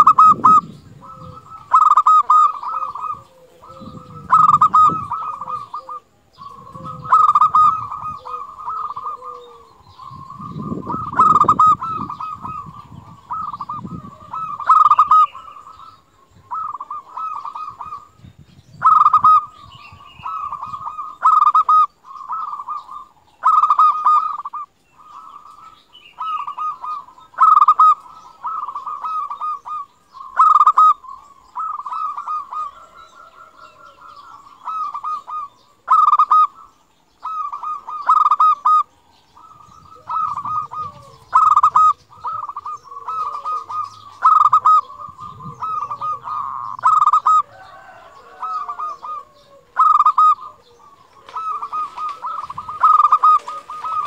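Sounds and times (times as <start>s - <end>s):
dove cooing song: 0.0s - 54.0s.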